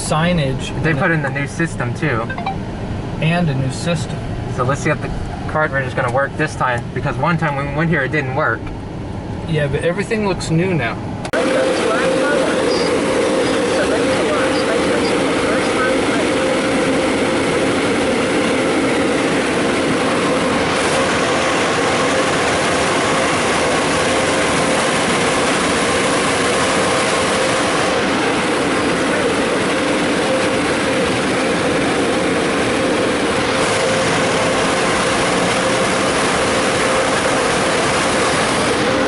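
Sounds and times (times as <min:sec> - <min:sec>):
constant hum: 0:00.0 - 0:39.0
rushing noise in car cabin: 0:00.0 - 0:39.0.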